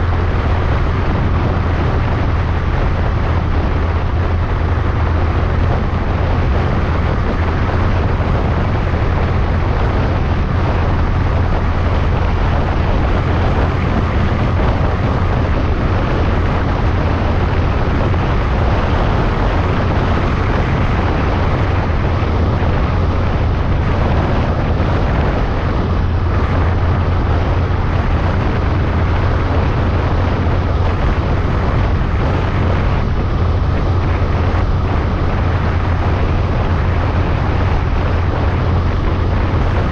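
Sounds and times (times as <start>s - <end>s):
low engine drone: 0.0s - 39.9s
wind and road noise: 0.0s - 39.9s.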